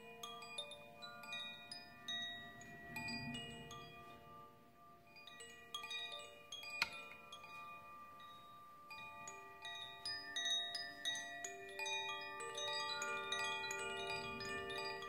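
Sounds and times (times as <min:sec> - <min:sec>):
chimes ringing softly: 0:00.0 - 0:15.0.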